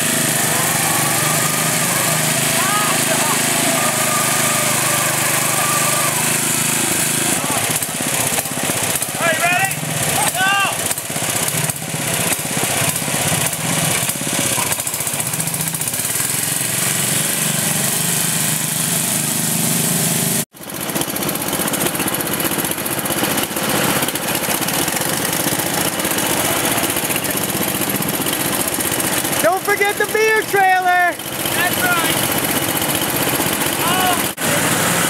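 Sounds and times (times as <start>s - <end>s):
small engines running: 0.0s - 35.0s.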